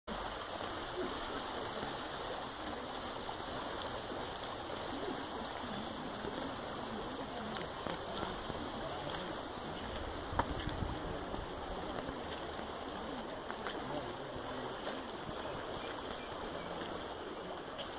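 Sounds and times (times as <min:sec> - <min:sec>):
faint distant voices: 0:00.1 - 0:17.9
running water in a stream: 0:00.1 - 0:17.9.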